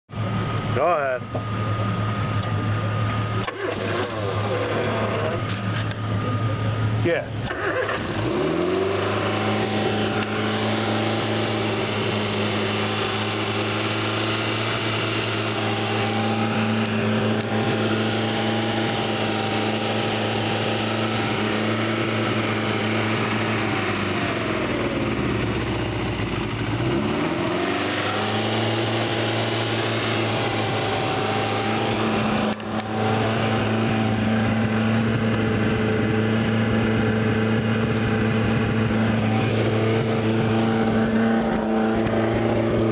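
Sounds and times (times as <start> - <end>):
car engine running: 0.1 - 42.9.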